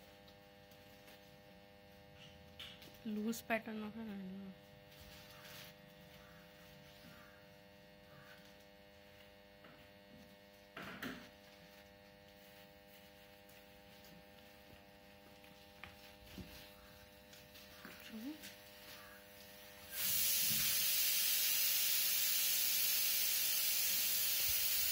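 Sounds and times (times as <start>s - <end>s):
electrical mains hum: 0.0s - 24.9s.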